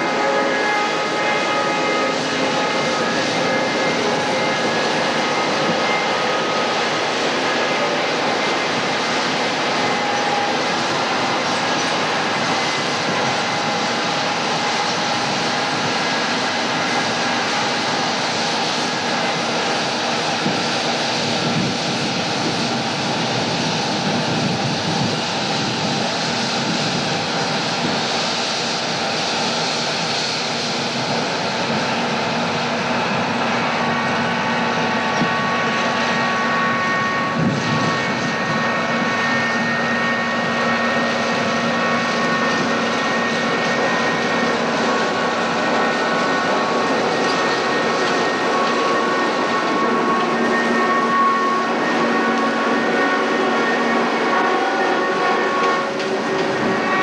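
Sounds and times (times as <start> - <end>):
combine harvester running: 0.0 - 57.0
steady mechanical whine: 0.0 - 57.0.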